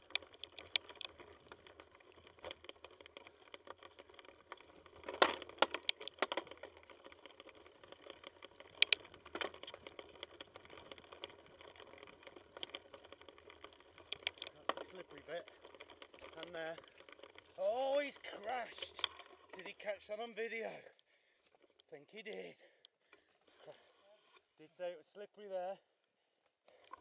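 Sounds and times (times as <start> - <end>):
mountain bike rattling: 0.0 - 24.6.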